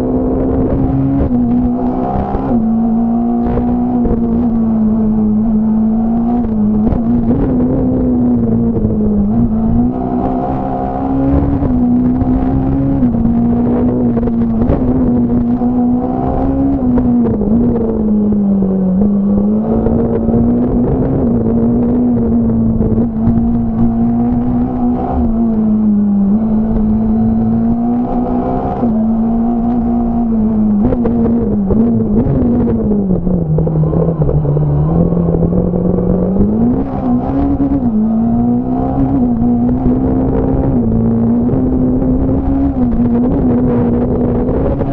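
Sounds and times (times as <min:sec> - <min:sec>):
rally car engine at high revs: 0:00.0 - 0:44.9.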